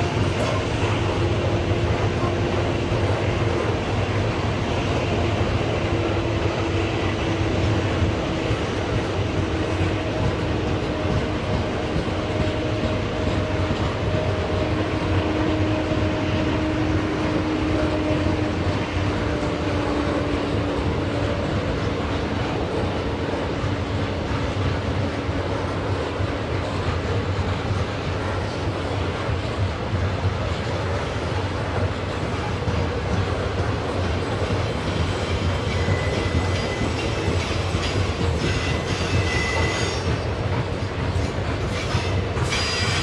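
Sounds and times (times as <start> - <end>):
freight train rolling past: 0.0 - 43.0.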